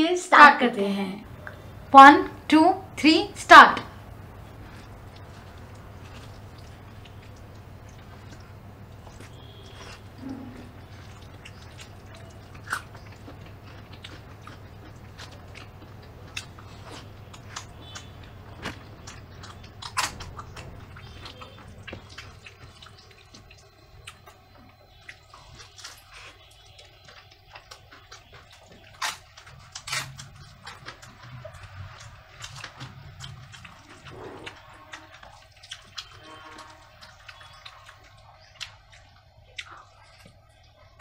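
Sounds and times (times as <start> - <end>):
wet chewing and lip-smacking: 3.8 - 41.0
fingers squishing rice in curry: 4.0 - 41.0.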